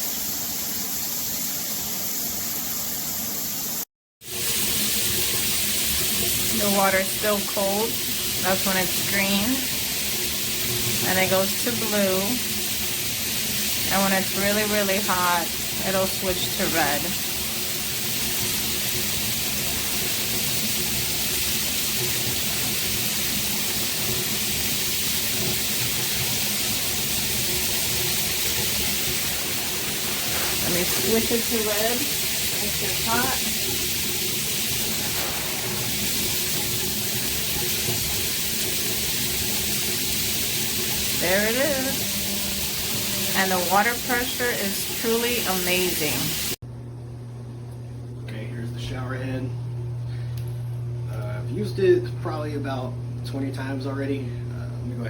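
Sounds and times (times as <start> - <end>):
shower spraying water: 0.0 - 46.6.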